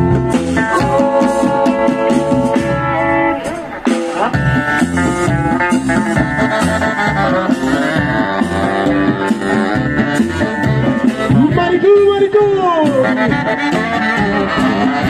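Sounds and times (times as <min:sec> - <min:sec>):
drums: 0:00.0 - 0:15.0
electric guitar: 0:00.0 - 0:15.0
upright bass: 0:00.0 - 0:15.0.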